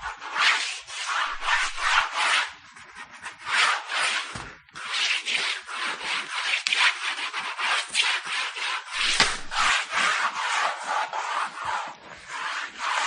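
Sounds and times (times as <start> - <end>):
pencil scratching on paper: 0.0 - 13.0.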